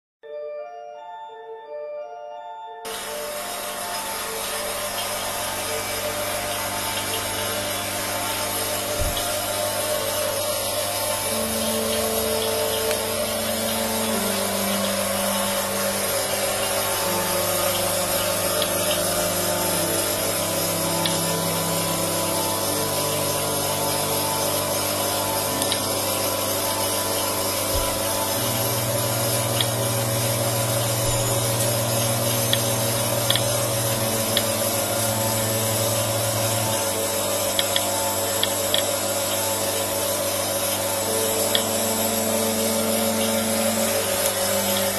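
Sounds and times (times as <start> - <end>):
quiet background music: 0.2 - 44.9
vacuum pump humming: 2.9 - 44.9.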